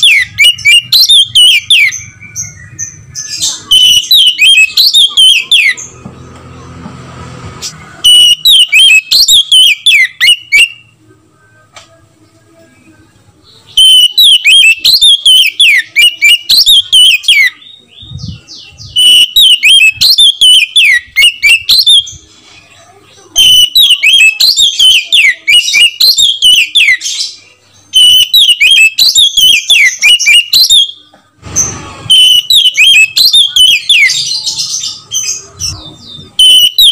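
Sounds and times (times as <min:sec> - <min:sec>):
bird singing whistled notes: 0:00.0 - 0:06.0, 0:08.0 - 0:11.0, 0:13.7 - 0:22.2, 0:23.4 - 0:31.0, 0:32.1 - 0:36.9.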